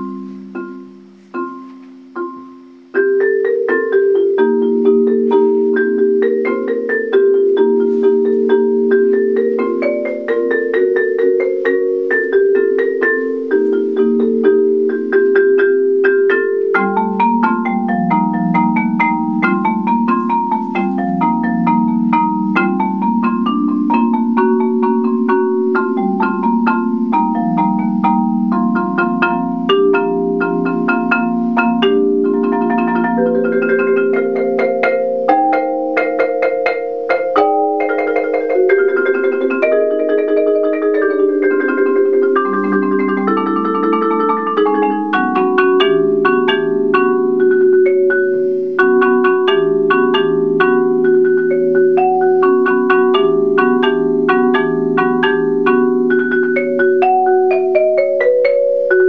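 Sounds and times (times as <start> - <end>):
marimba playing: 0.0 - 59.0.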